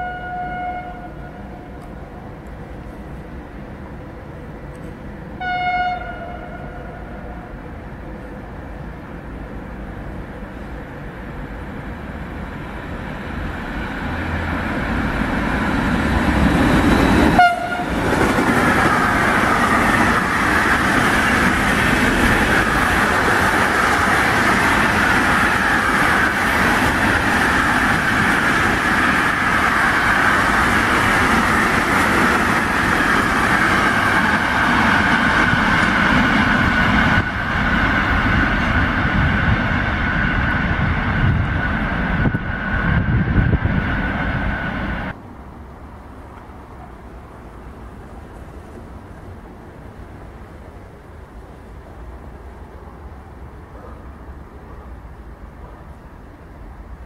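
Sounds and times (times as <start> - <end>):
freight train rolling rumble: 0.0 - 57.0.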